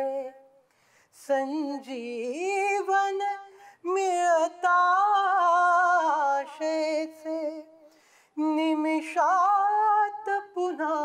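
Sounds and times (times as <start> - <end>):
man singing unaccompanied: 0.0 - 0.4, 1.2 - 11.0.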